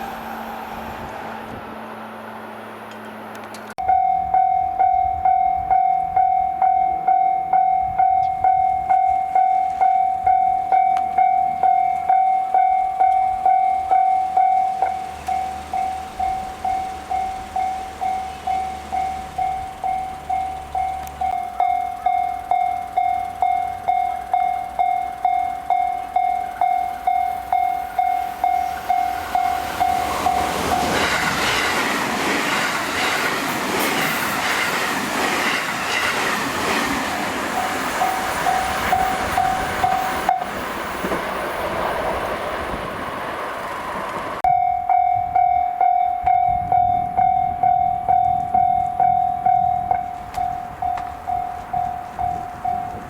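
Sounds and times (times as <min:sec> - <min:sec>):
train rushing and wheel clatter: 0:00.0 - 0:53.0
level crossing warning bell: 0:03.8 - 0:41.1, 0:44.4 - 0:53.0.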